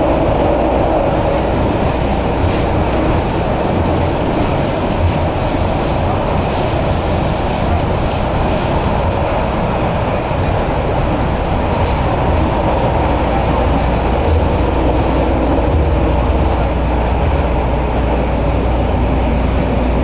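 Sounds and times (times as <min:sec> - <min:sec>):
subway train rumbling in tunnel: 0:00.0 - 0:20.0.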